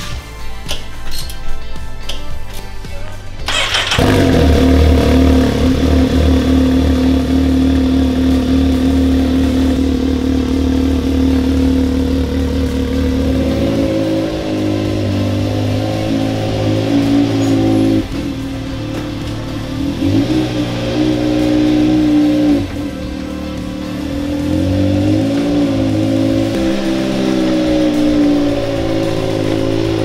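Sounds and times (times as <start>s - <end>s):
engine idling: 3.5s - 30.0s.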